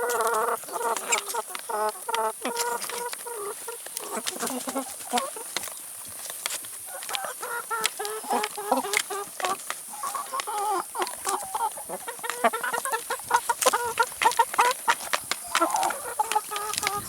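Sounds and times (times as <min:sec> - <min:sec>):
beaks pecking at vegetables: 0:00.0 - 0:17.0
chickens clucking: 0:00.0 - 0:17.0.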